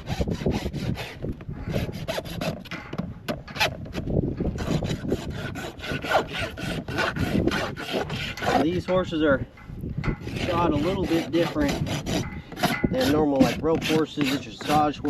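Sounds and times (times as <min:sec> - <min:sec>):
rasp scraping a hoof: 0:00.0 - 0:09.3, 0:10.0 - 0:15.0.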